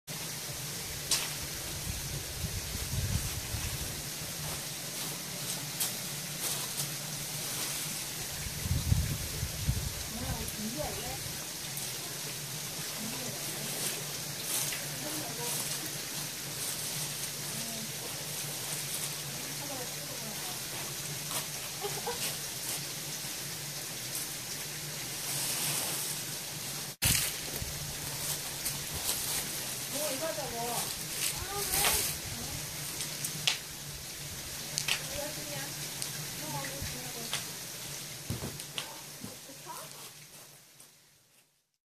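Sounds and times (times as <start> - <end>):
stream water rushing: 0.1 - 40.7
steady hiss: 0.1 - 41.6.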